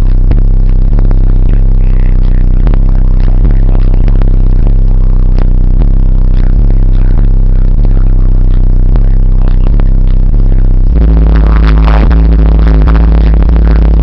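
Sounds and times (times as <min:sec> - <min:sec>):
bass-heavy music in car: 0:00.0 - 0:14.0.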